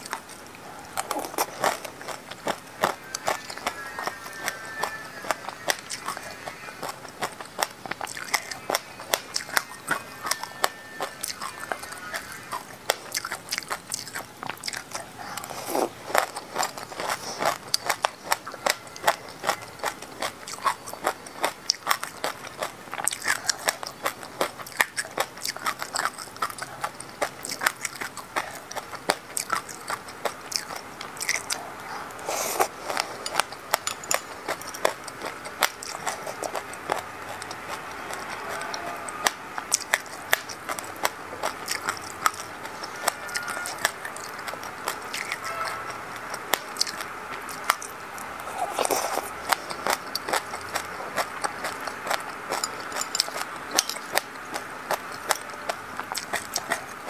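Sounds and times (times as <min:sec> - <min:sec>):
crunchy chewing of seeds: 0:00.0 - 0:57.0.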